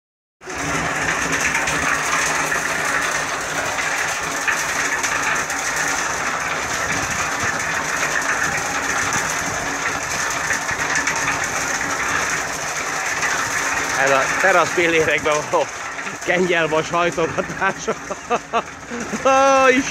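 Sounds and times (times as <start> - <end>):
concrete mixer droning: 0.4 - 19.9.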